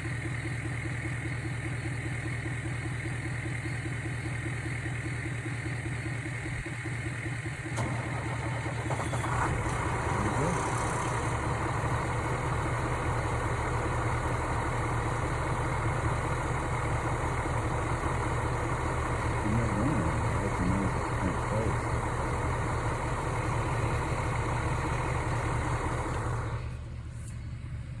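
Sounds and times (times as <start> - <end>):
bus engine idling: 0.0 - 28.0.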